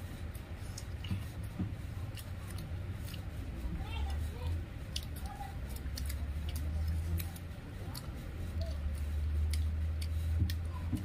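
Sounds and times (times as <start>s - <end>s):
chewing clicks and smacks: 0.3s - 3.3s, 4.9s - 11.0s.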